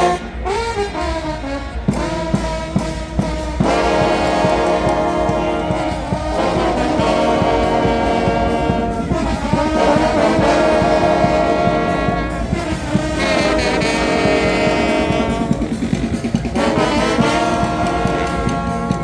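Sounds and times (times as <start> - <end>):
band playing: 0.0 - 19.0
horns holding sustained chords: 0.0 - 19.0
steady drum beat: 0.0 - 19.0.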